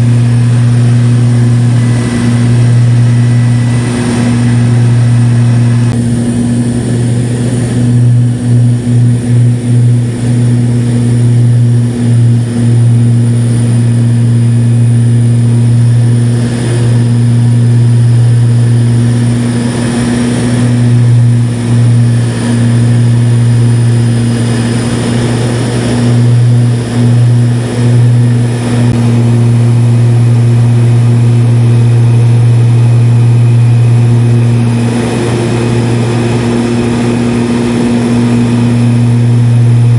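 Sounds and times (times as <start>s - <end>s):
propeller airplane engine droning: 0.0s - 39.9s.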